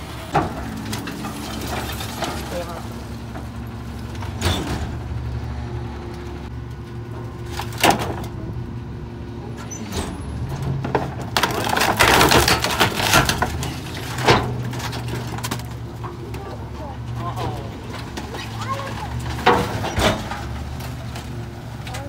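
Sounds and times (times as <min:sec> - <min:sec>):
garbage truck engine running: 0:00.0 - 0:22.0.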